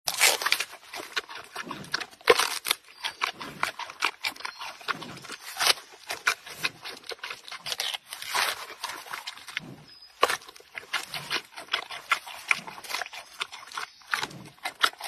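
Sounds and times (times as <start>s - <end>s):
panda chewing bamboo: 0.1s - 15.0s.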